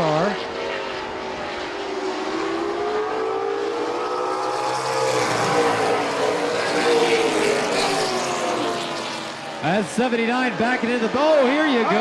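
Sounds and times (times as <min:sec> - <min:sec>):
race cars racing past: 0:00.0 - 0:12.0.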